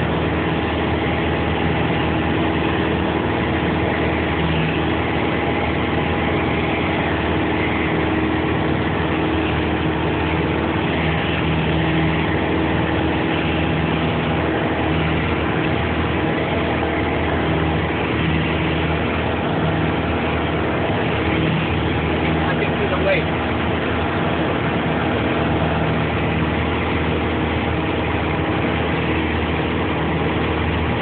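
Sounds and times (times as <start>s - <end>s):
aircraft engine and propeller drone: 0.0s - 31.0s.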